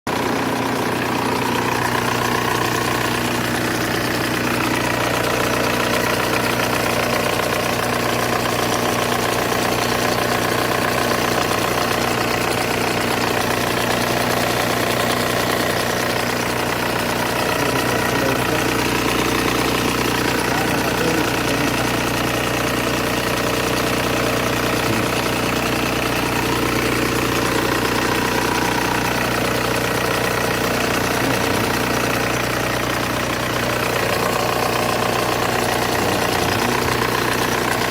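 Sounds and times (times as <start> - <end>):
diesel engine idling: 0.1 - 37.9
power steering pump mechanical noise: 0.1 - 37.9.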